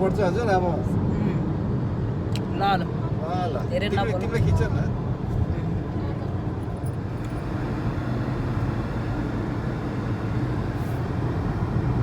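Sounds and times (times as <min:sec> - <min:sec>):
road and engine drone in car: 0:00.0 - 0:12.0.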